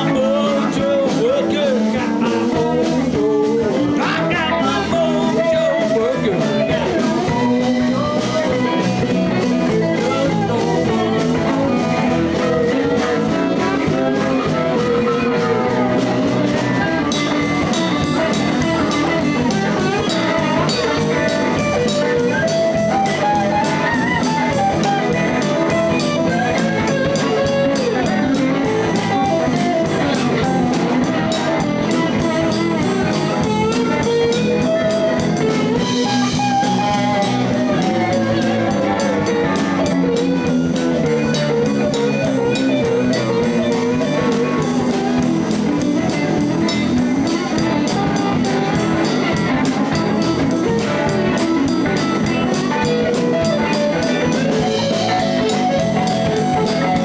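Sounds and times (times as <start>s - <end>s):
live blues band playing: 0.0s - 57.0s.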